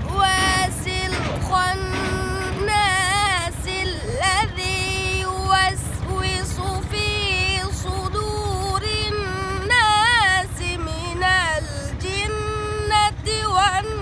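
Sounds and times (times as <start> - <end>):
boy chanting recitation: 0.0 - 14.0.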